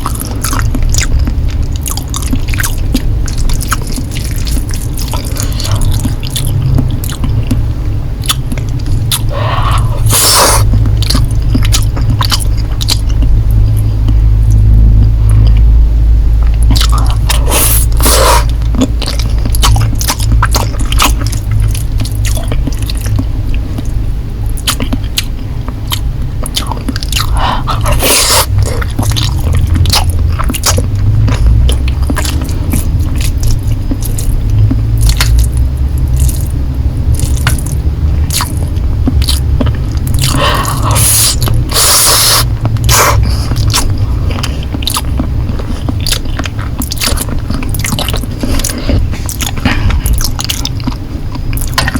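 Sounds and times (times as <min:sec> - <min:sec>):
wet chewing and biting: 0:00.0 - 0:15.7, 0:16.4 - 0:51.9
noisy bursts: 0:00.0 - 0:51.9
steady low rumble: 0:00.0 - 0:51.9.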